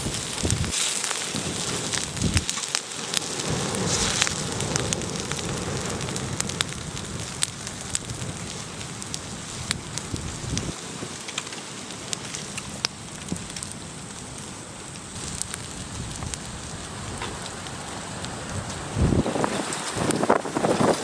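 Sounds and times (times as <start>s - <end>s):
sharp fire pops: 0.0s - 21.0s
wood fire crackling: 0.0s - 21.0s.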